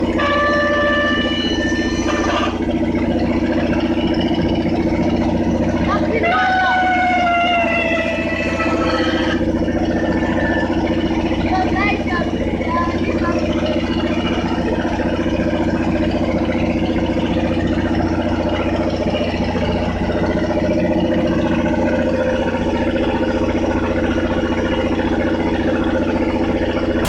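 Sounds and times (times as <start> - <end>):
drilling rig engine drone: 0.0 - 27.0.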